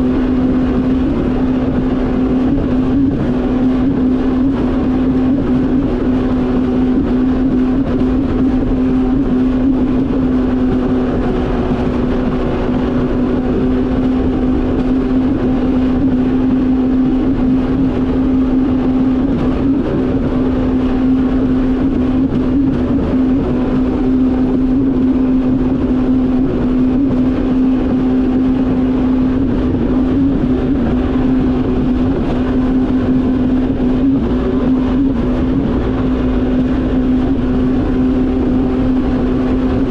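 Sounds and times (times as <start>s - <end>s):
jet ski engine running: 0.0s - 39.9s
water and wind rushing: 0.0s - 39.9s.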